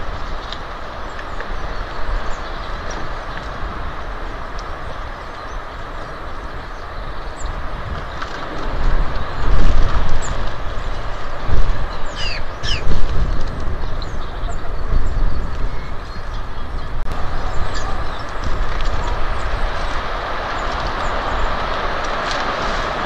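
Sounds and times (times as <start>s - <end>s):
small birds chirping: 0.0s - 22.2s
wind rumble on microphone: 0.0s - 23.0s.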